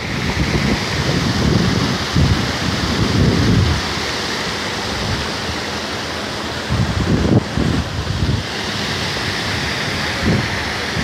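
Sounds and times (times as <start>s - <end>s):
water rushing in a torrent: 0.0s - 11.0s.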